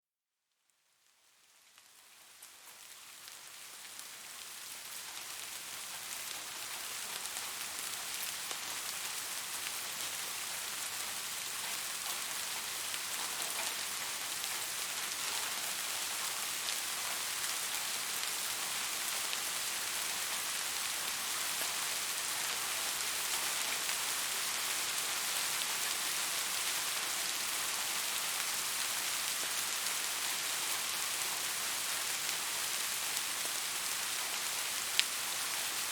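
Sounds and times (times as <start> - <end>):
rain falling steadily: 0.4 - 35.9.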